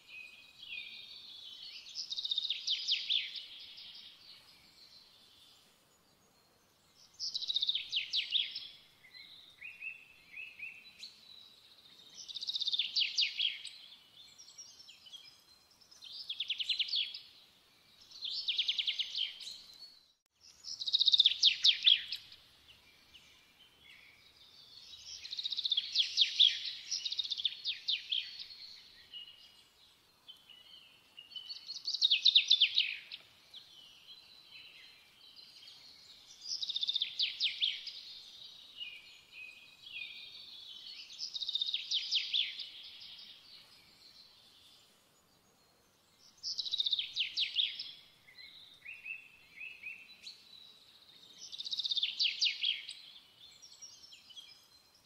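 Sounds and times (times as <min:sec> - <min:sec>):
songbird singing trilled notes: 0:00.0 - 0:05.6, 0:06.2 - 0:55.0.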